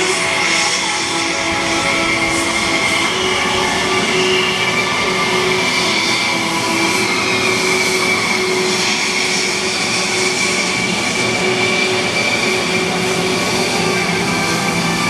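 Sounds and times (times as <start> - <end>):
jet engine rushing noise: 0.0 - 15.0
jet engine whine: 0.0 - 15.0.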